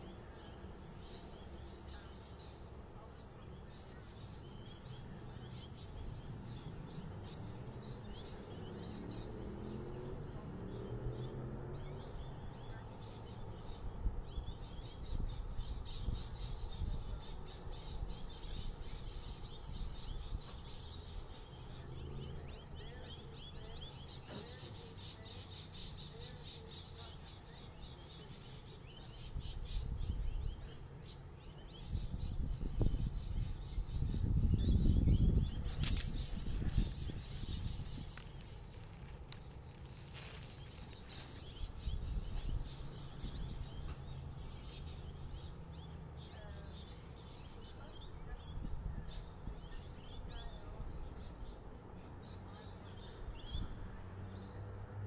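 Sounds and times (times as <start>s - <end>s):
birds chirping: 0.0s - 54.8s.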